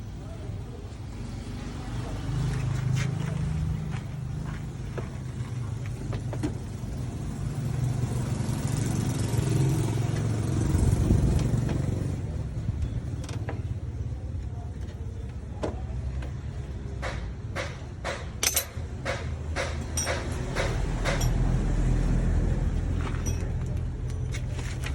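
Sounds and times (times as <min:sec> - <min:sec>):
vehicle engine humming: 0:01.4 - 0:24.9.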